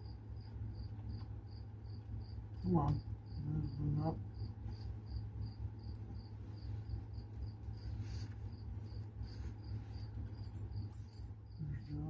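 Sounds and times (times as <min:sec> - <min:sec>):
cricket chirping: 0:00.0 - 0:12.0
steady low hum: 0:00.0 - 0:12.0.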